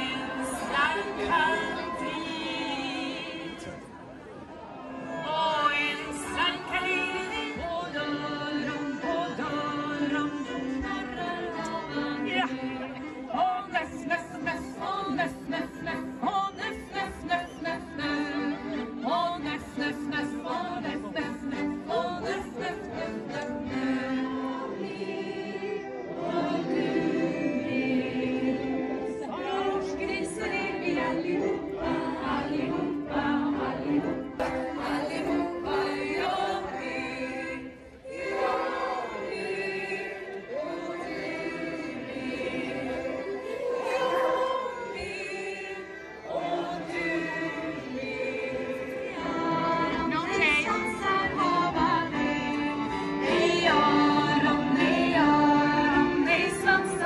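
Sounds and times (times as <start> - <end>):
crowd singing together: 0.0 - 57.0
music: 0.0 - 57.0.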